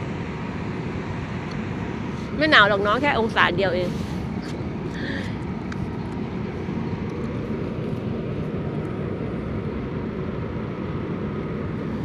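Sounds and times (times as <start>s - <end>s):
faint hum: 0.0s - 12.0s
ferry engines low rumble: 0.0s - 12.0s.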